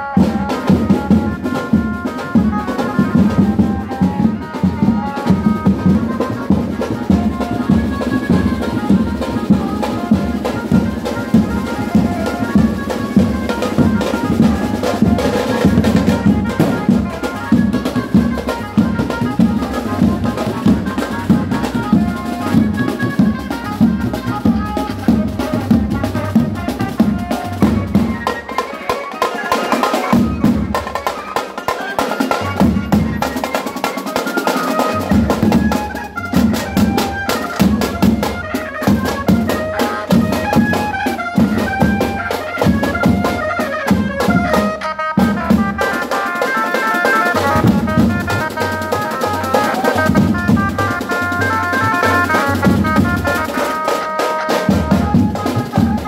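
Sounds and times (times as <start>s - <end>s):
drums beaten with sticks: 0.0s - 56.0s.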